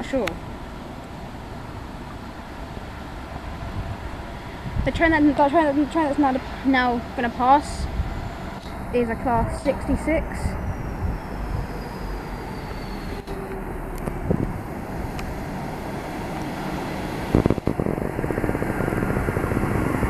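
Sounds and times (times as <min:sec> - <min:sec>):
diesel locomotive engine droning: 0:00.0 - 0:20.0.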